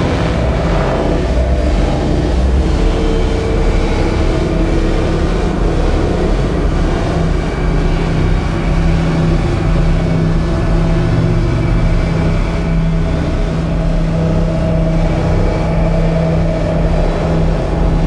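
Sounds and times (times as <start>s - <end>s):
dense low rumble: 0.0s - 18.0s
layered sustained tones: 0.0s - 18.0s.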